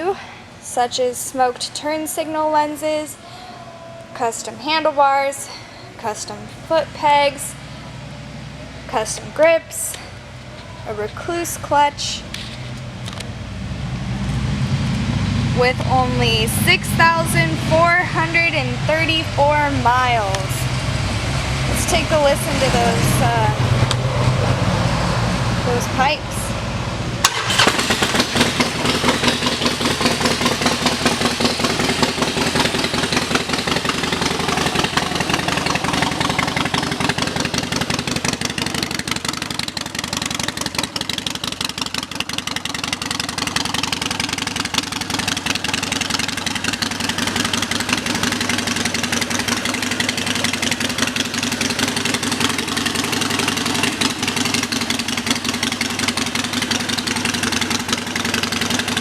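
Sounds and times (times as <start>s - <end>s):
motorcycle engine idling: 5.7s - 24.6s, 25.7s - 59.0s.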